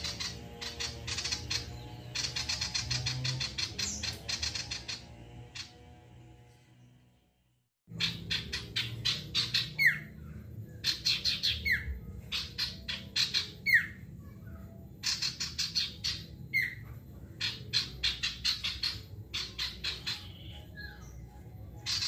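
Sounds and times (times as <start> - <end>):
bird chipping notes: 0.0 - 7.0, 7.9 - 22.0.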